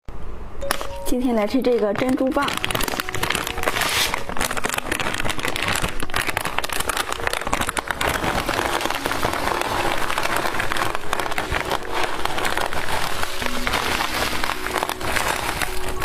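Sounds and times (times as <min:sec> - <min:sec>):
candy wrapper crinkling: 0:01.6 - 0:16.0.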